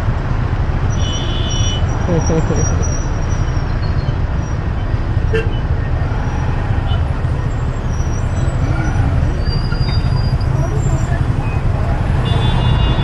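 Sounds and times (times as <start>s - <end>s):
motorbike engine and road noise: 0.0s - 13.0s
traffic rumble: 0.0s - 13.0s.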